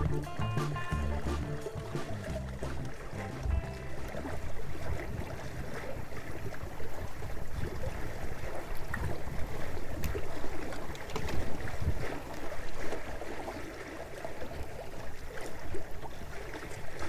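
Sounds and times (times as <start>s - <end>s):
water slapping boat hulls: 0.0s - 17.0s.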